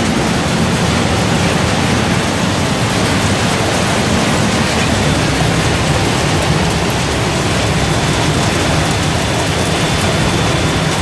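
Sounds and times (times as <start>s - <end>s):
processing machinery running: 0.0s - 11.0s.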